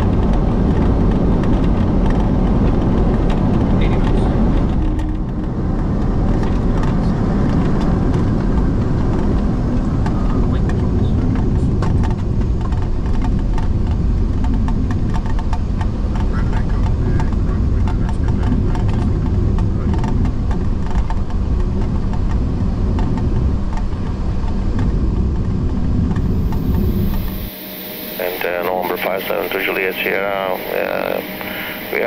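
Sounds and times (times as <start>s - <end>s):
aircraft cockpit rumble: 0.0s - 32.0s
rain ticking on windscreen: 0.0s - 32.0s.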